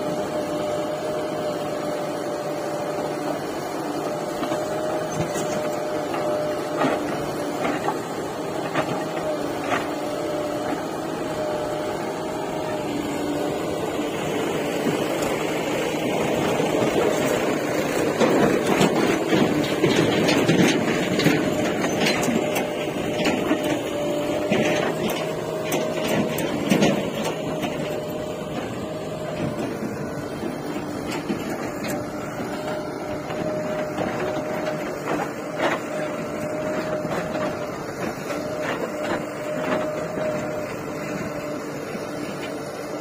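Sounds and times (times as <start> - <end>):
constant whine: 0.0 - 43.0
diesel engine running: 0.0 - 43.0.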